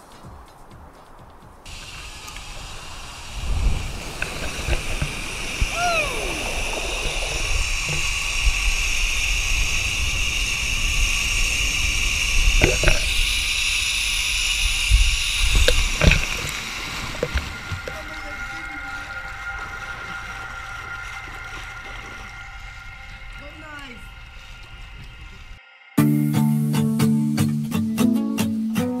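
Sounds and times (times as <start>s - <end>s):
wind rumble on microphone: 0.0s - 25.6s
zip-line trolley whirring: 1.7s - 25.6s.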